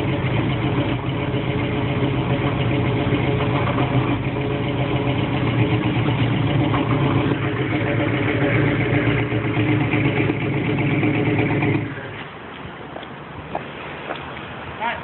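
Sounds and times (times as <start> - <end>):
engine idling: 0.0 - 12.3.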